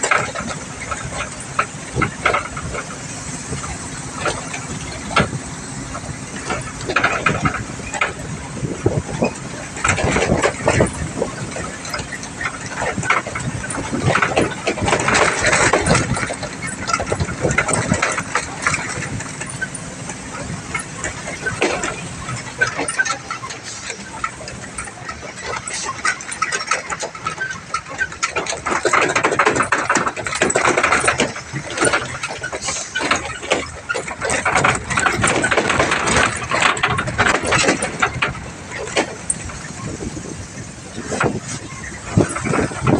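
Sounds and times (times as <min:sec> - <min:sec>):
truck body knocking and rattling: 0:00.0 - 0:42.9
truck engine running: 0:00.0 - 0:42.9.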